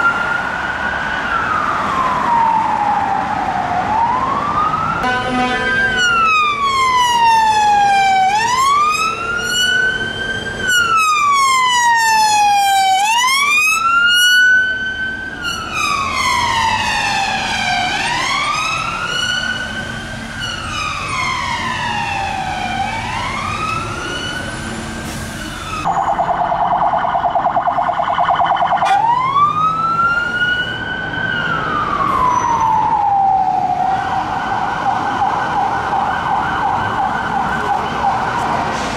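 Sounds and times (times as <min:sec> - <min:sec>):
police siren wailing: 0:00.0 - 0:24.8, 0:25.4 - 0:38.8.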